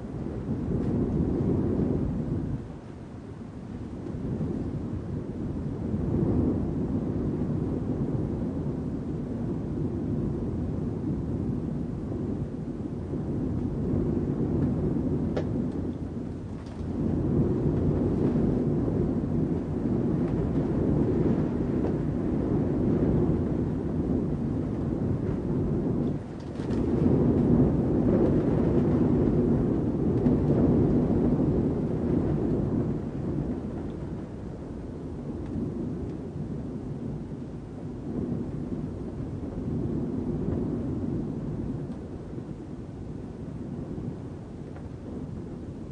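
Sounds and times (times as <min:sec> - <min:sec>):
wind rushing: 0:00.0 - 0:45.9.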